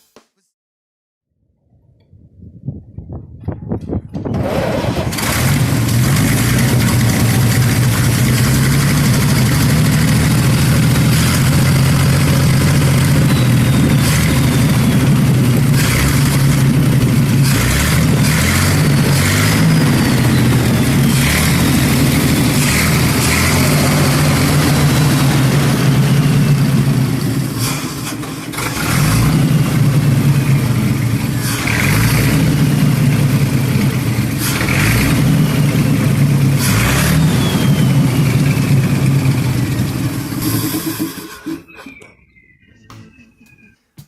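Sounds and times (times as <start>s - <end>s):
truck engine revving: 4.1s - 41.8s.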